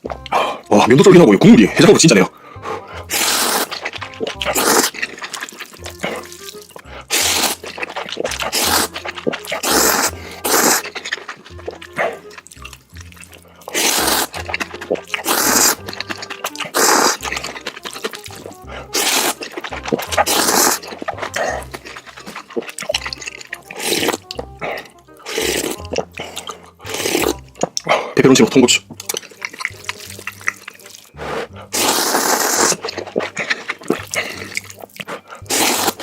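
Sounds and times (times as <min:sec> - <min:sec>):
background music with bass line: 0:00.0 - 0:05.2, 0:05.8 - 0:36.0
noodles being slurped: 0:00.0 - 0:36.0.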